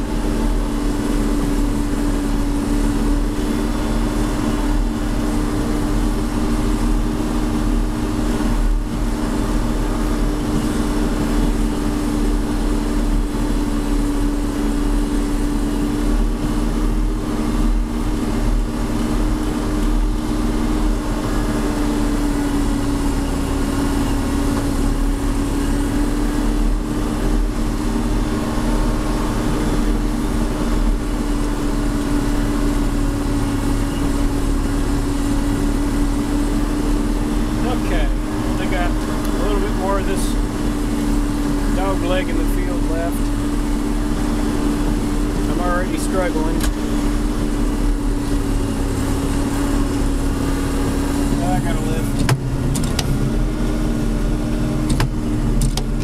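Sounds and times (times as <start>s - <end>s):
diesel tractor engine droning: 0.0s - 56.0s.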